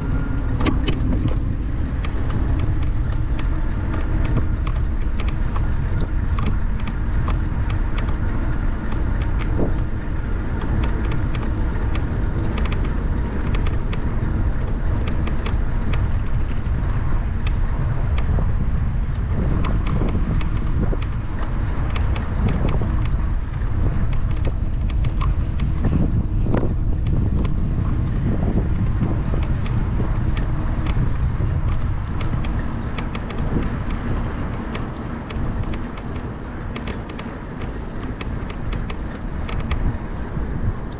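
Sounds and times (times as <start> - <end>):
bicycle tyres humming: 0.0 - 40.9
bike clicks and rattles: 0.0 - 40.9
wind buffeting microphone: 0.0 - 40.9.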